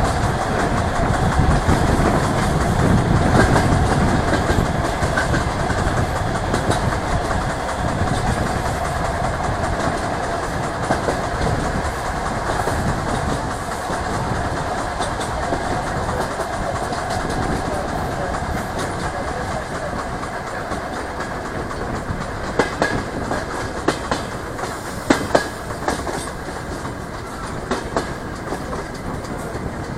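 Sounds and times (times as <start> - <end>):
train rumbling: 0.0 - 29.9
wheels clicking over rail joints: 0.0 - 29.9.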